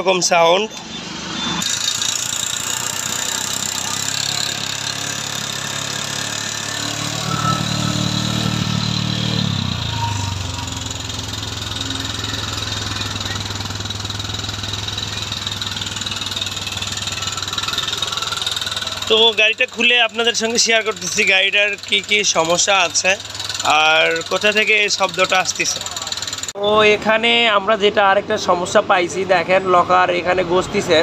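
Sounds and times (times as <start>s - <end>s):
motorcycle engine idling: 1.8s - 26.8s.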